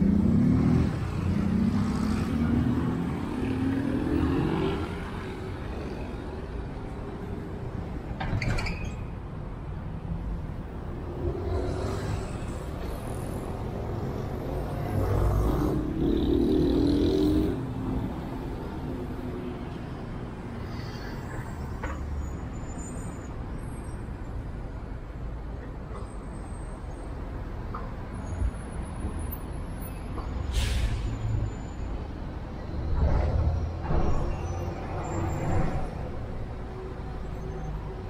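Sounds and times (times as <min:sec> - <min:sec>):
heavy vehicles passing: 0:00.0 - 0:08.2, 0:09.5 - 0:38.0
road traffic rumble: 0:00.0 - 0:38.0.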